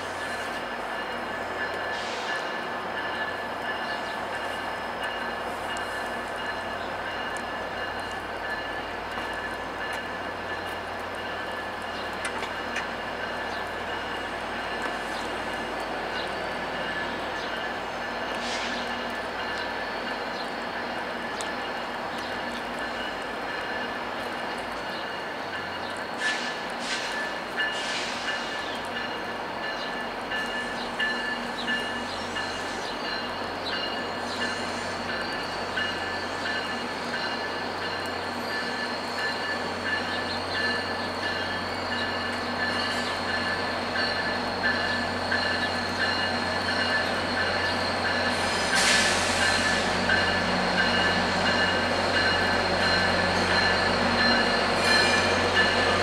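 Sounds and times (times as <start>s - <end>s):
diesel locomotive engines running: 0.0s - 56.0s.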